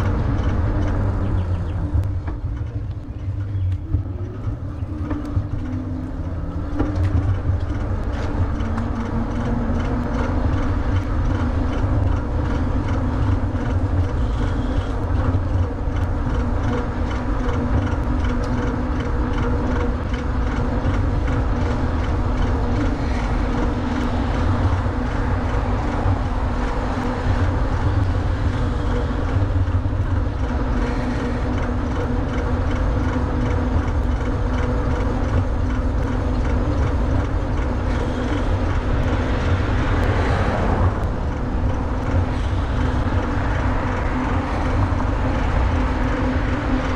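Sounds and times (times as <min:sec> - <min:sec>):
tyres rolling on pavement: 0:00.0 - 0:46.9
wind on microphone: 0:00.0 - 0:46.9.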